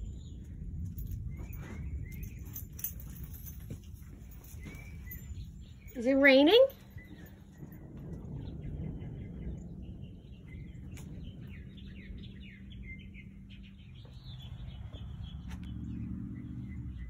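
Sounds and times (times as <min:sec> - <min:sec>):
low continuous rumble: 0:00.0 - 0:17.0
small birds chirping: 0:00.0 - 0:17.0.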